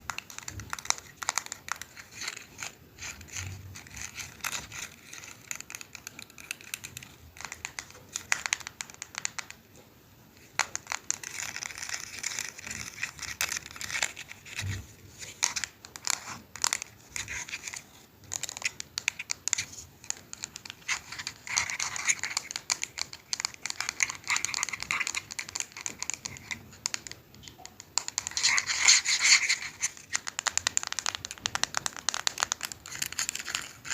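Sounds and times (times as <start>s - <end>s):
crackling and clicking: 0.0s - 33.9s
soft hiss: 0.0s - 33.9s.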